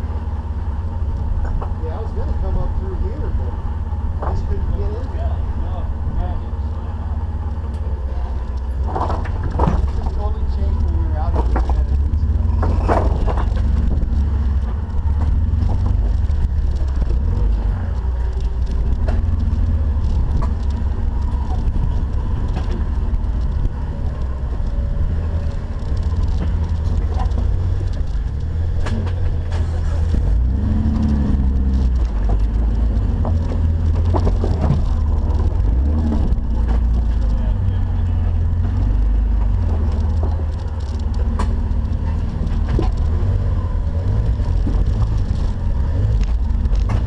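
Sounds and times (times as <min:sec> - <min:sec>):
engine running low: 0:00.0 - 0:47.0.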